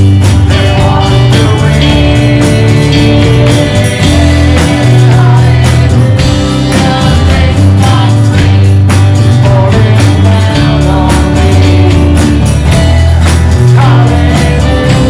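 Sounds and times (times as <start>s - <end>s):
steady drum beat: 0.0s - 15.0s
sustained bass notes: 0.0s - 15.0s
worship band playing: 0.0s - 15.0s.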